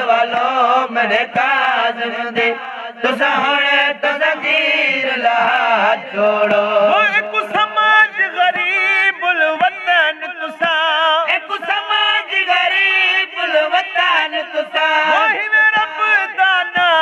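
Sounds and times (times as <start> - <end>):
men chanting a lament: 0.0 - 17.0
person singing into a microphone: 0.0 - 17.0.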